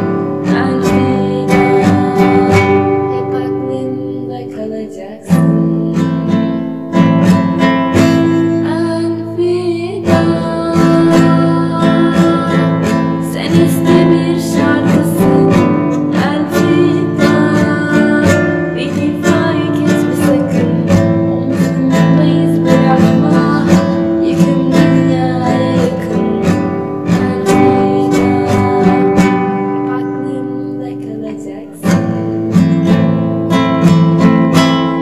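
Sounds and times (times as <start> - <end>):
guitar strumming chords: 0.0 - 35.0.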